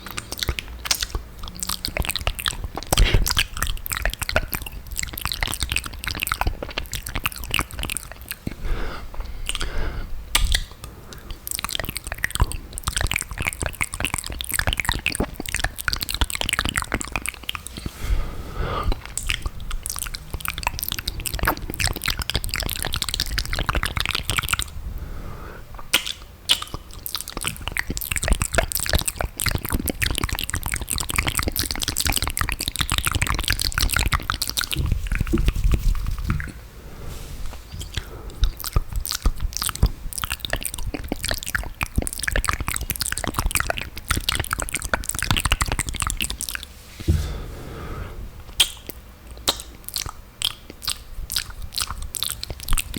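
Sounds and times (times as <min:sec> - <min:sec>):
wet mouth clicks and lip pops: 0:00.0 - 0:08.6, 0:09.2 - 0:18.0, 0:18.8 - 0:24.8, 0:25.7 - 0:36.6, 0:37.6 - 0:47.2, 0:48.5 - 0:52.9.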